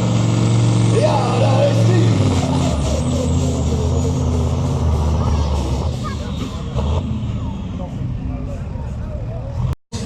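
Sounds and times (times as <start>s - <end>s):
loud truck engine running: 0.0s - 10.0s.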